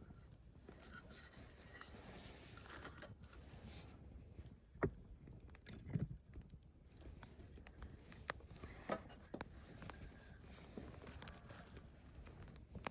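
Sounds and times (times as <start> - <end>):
low rumble of flame: 0.0 - 12.9
wood fire crackling: 0.0 - 12.9.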